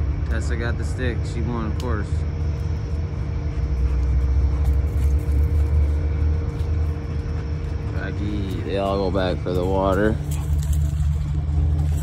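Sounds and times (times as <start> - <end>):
faint hum: 0.0 - 12.0
low rumble: 0.0 - 12.0.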